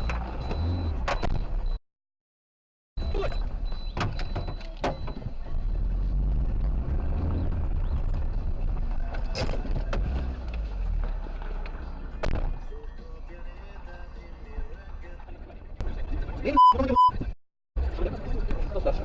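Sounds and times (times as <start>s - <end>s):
car road and engine rumble: 0.0s - 1.8s, 3.0s - 19.0s.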